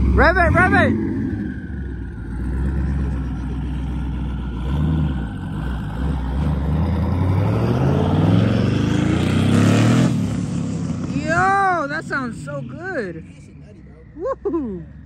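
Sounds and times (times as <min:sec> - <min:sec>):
car engine rumbling and revving: 0:00.0 - 0:15.0.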